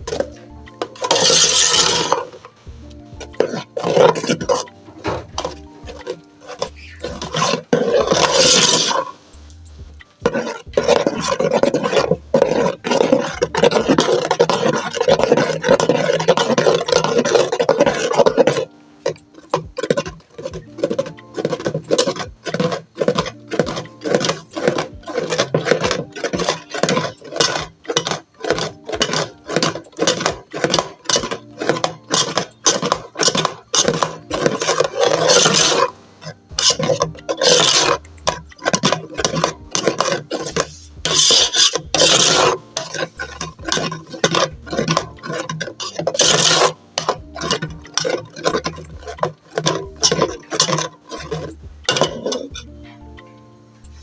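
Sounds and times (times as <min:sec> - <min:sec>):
spoon scraping in a pot: 0:00.0 - 0:53.0.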